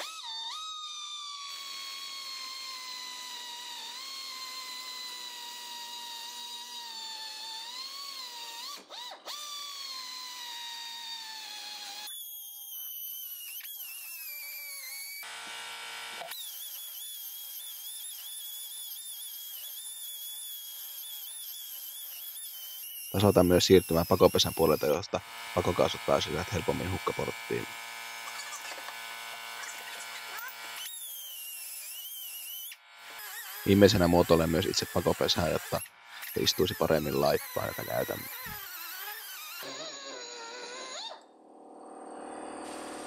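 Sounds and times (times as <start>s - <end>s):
die grinder whining on metal: 0.0s - 41.3s.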